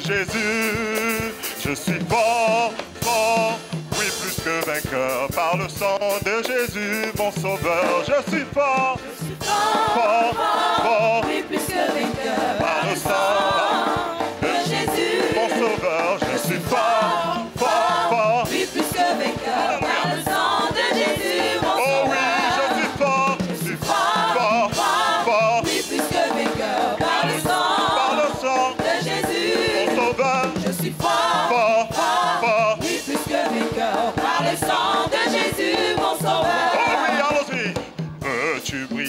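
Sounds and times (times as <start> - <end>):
choir singing gospel: 0.0 - 39.0
drums keeping a steady beat: 0.0 - 39.0
live band playing: 0.0 - 39.0.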